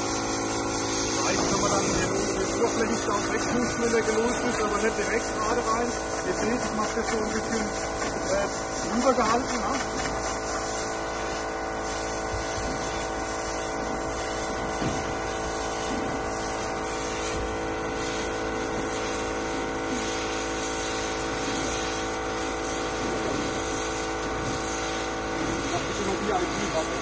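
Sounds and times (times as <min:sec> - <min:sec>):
air blow gun hissing: 0:00.0 - 0:27.0
air compressor humming: 0:00.0 - 0:27.0.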